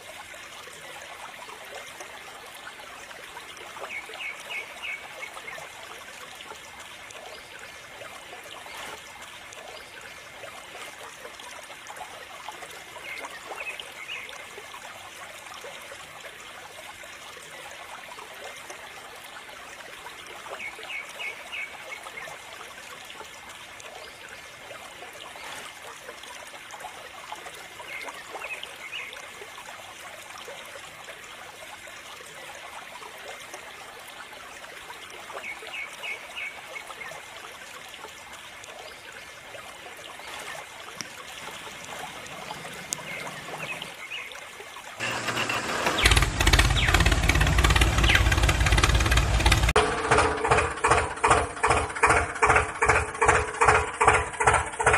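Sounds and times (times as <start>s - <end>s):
water trickling into puddle: 0.0s - 54.9s.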